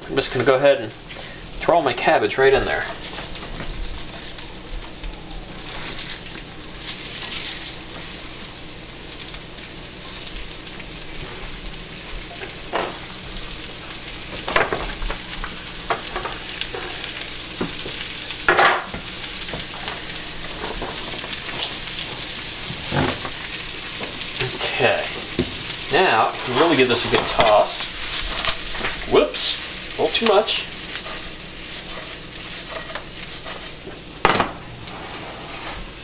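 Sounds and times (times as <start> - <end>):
vegetables sizzling in fat: 0.0 - 36.0.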